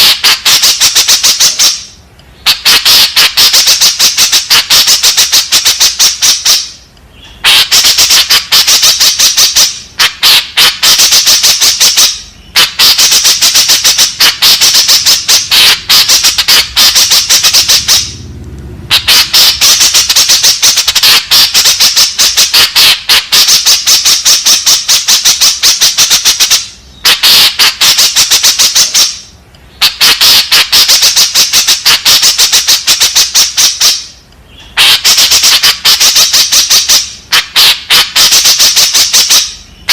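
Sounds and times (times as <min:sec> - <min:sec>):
bird harsh chattering calls: 0:00.0 - 0:39.9.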